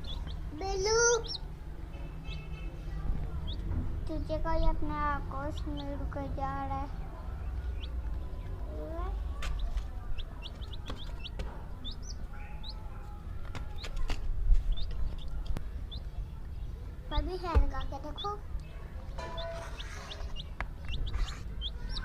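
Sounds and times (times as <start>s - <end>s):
baby chicks peeping: 0.0s - 22.0s.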